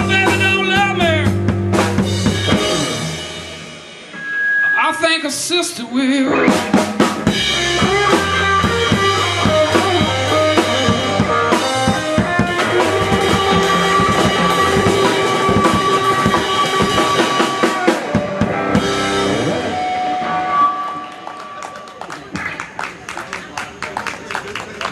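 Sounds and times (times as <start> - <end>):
blues band playing: 0.0 - 23.2.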